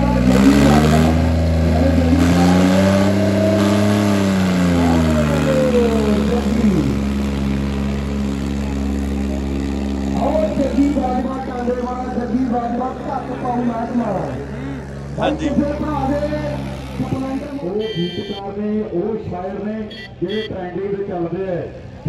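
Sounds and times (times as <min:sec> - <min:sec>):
diesel tractor engine revving: 0:00.0 - 0:21.2.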